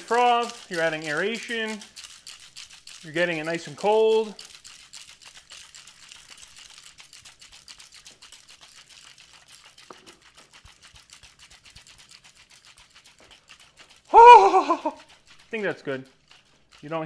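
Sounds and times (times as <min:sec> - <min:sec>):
ice rattling in cocktail shaker: 0:00.0 - 0:17.0.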